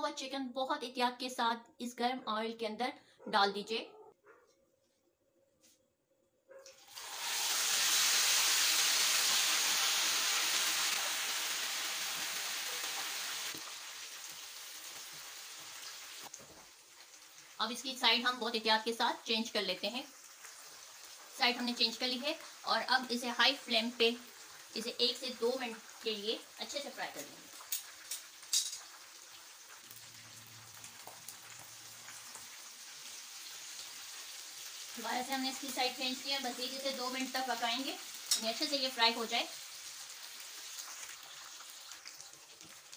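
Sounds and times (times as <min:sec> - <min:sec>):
chicken sizzling in hot oil: 0:06.8 - 0:42.9.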